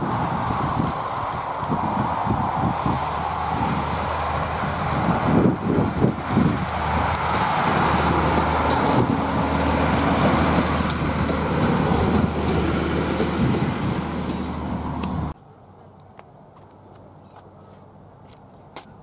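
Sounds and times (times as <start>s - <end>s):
diesel train engine humming: 0.0s - 15.4s
train wheels rolling on track: 0.0s - 15.4s.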